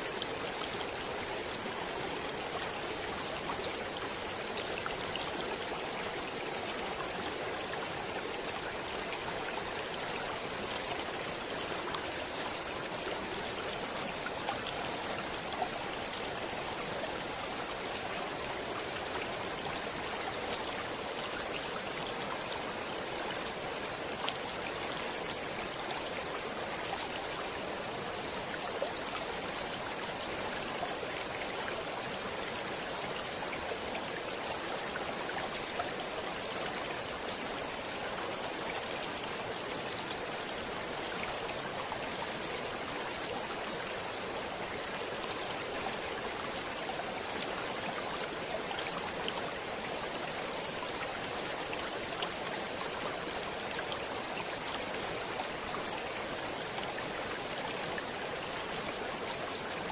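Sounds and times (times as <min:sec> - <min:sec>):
stream of running water: 0:00.0 - 0:59.9.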